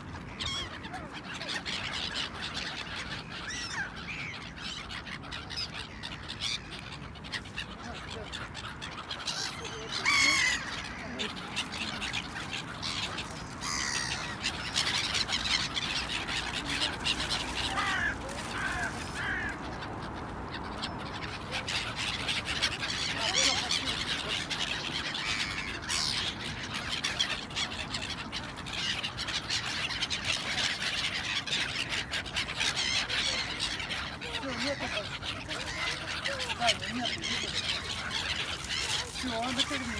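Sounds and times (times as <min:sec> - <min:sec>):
gulls calling: 0:00.0 - 0:39.9.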